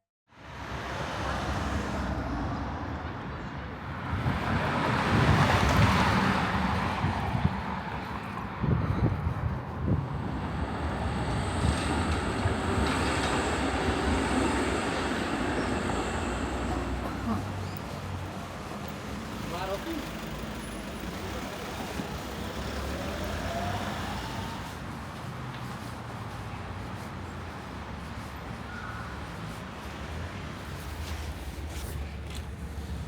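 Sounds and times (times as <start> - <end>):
vehicle rumble: 0.6 - 33.0.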